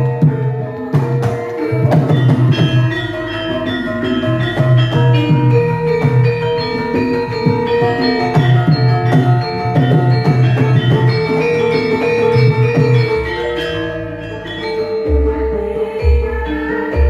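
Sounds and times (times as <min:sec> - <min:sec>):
drum strokes: 0:00.0 - 0:13.9.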